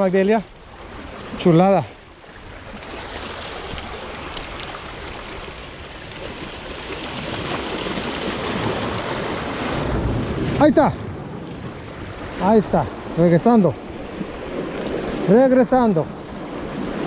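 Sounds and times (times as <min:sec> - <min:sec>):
ocean surf washing on shore: 0:00.0 - 0:17.0.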